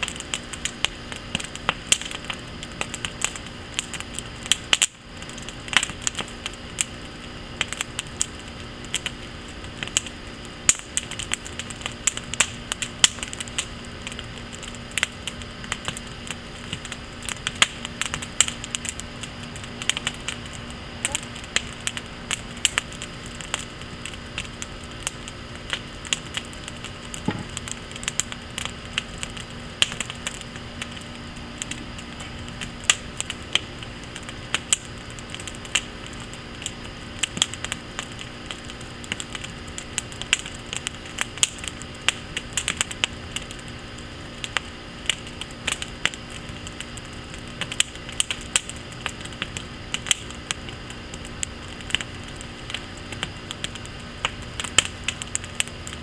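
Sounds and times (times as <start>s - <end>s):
fire hissing: 0.0s - 56.0s
fire snaps and pops: 0.0s - 56.0s
wood fire crackling: 0.0s - 56.0s.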